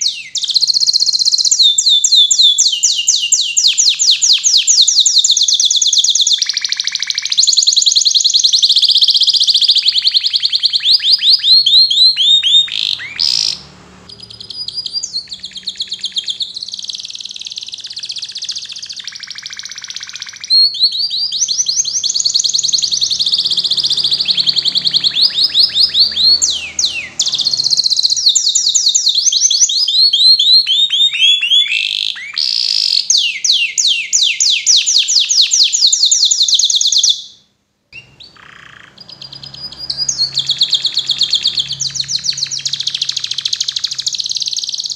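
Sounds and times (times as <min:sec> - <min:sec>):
canary singing trills: 0:00.0 - 0:37.4, 0:38.0 - 0:44.9.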